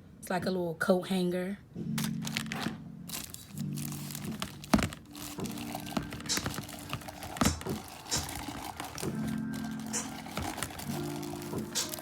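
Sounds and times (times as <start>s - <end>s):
faint background music: 0.0s - 12.0s
packaging crinkling and rustling: 2.0s - 12.0s.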